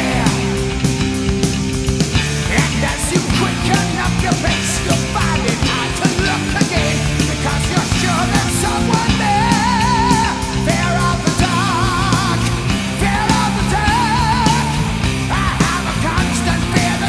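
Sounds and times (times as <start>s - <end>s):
heavy metal music: 0.0s - 17.0s.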